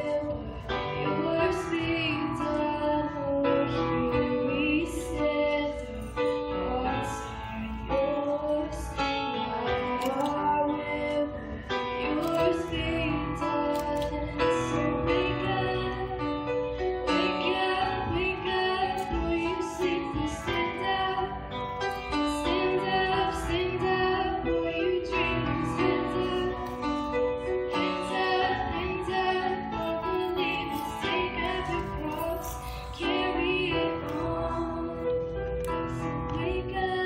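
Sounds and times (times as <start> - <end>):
girl singing: 0.0 - 16.4, 17.1 - 27.1, 27.8 - 35.3, 36.2 - 37.0
grand piano: 0.0 - 37.0.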